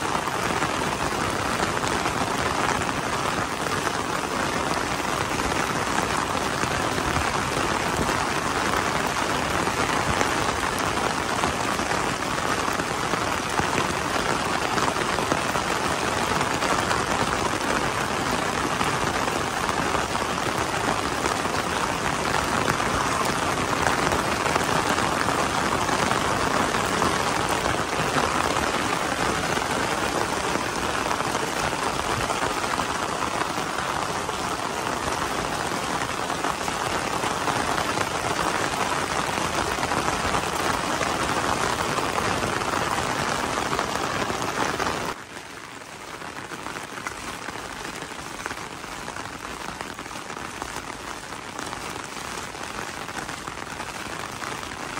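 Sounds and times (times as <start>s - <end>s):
rain drumming on an umbrella: 0.0s - 54.9s.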